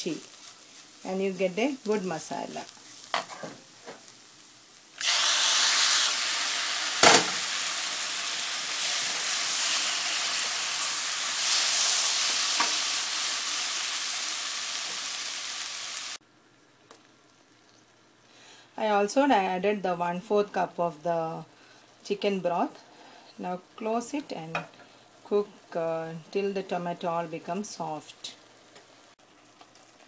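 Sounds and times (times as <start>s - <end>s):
tomatoes sizzling in hot oil: 0.0s - 16.2s, 20.4s - 30.0s.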